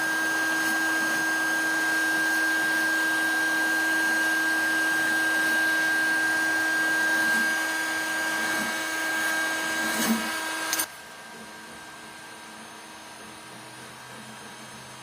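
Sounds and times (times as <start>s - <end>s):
heat gun fan whine: 0.0s - 15.0s.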